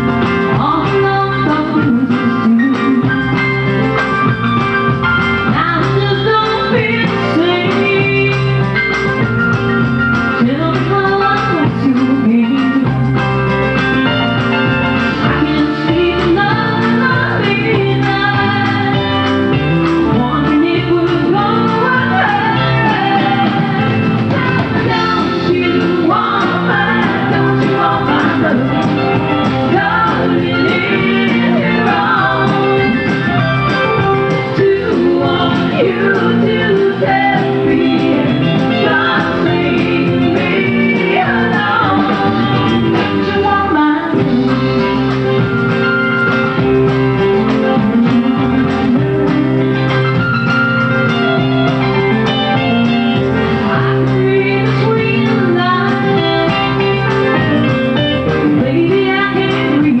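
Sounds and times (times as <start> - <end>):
woman singing lead: 0.0 - 4.6, 5.3 - 9.6, 10.2 - 13.3, 15.0 - 50.4, 51.4 - 60.0
live country band playing: 0.0 - 60.0.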